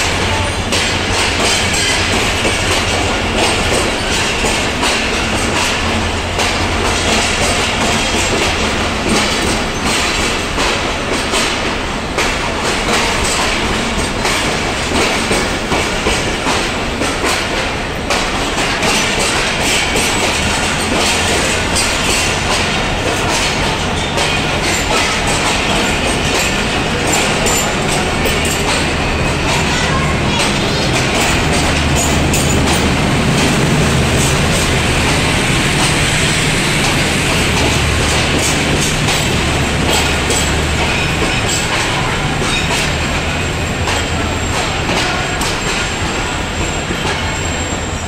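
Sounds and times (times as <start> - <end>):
train coaches rumbling past: 0.0 - 48.0
wheels clacking over rail joints: 0.0 - 48.0.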